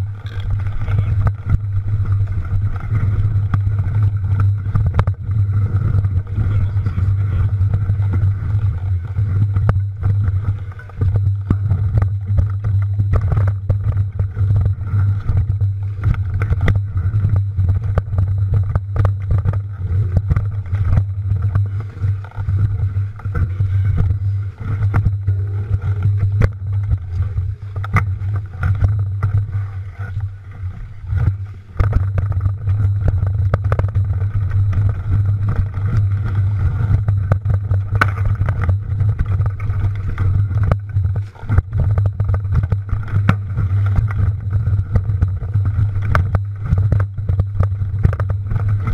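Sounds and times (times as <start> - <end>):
bike clicks and rattles: 0.0 - 48.9
mountain bike rumble on trail: 0.0 - 48.9.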